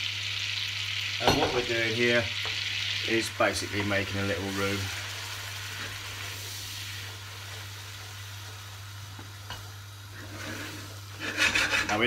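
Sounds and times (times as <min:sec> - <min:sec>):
roux sizzling in a pan: 0:00.0 - 0:12.0.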